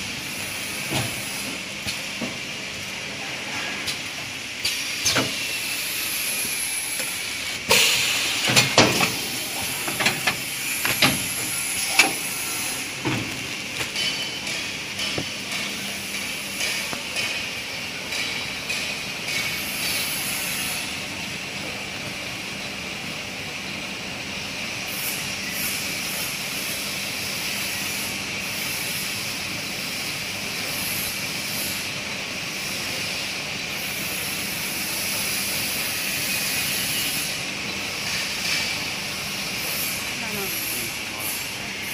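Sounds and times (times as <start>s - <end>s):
machine hissing and humming: 0.0s - 41.9s.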